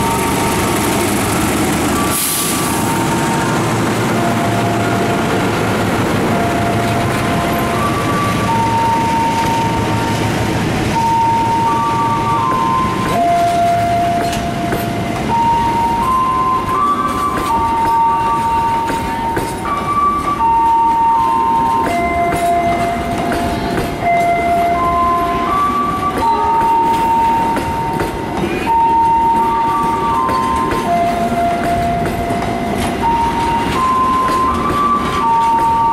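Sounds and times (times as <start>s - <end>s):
diesel locomotive rumbling: 0.0s - 35.9s
train cars clattering: 0.0s - 35.9s.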